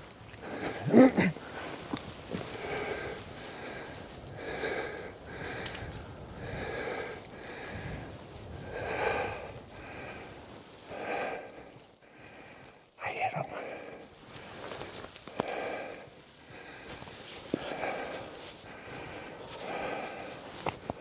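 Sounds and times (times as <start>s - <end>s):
person breathing hard: 0.4s - 21.0s.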